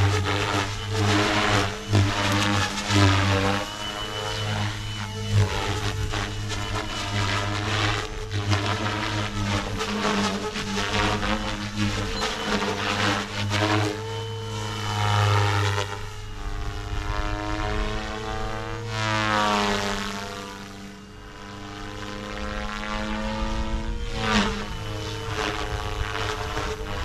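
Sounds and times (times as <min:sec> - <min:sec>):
rc helicopter flying past: 0:00.0 - 0:27.0.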